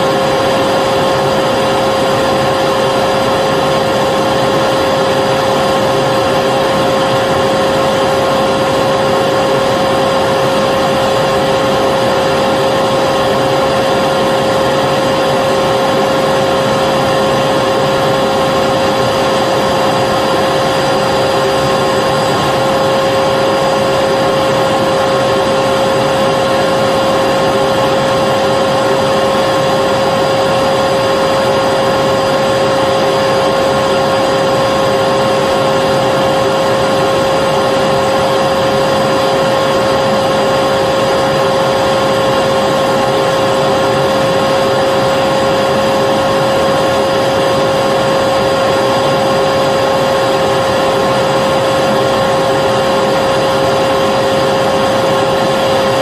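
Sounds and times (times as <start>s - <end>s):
vacuum cleaner motor: 0.0s - 56.0s.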